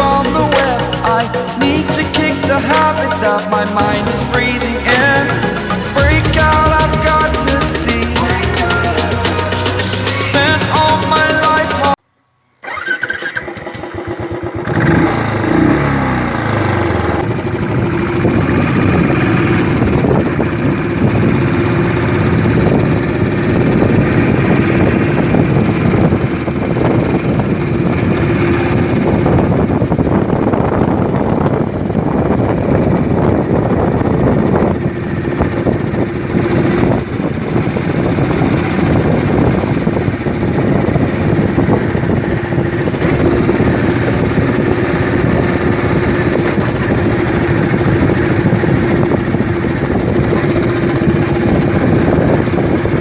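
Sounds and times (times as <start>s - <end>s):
motorcycle engine running: 0.0s - 12.0s, 12.6s - 53.0s.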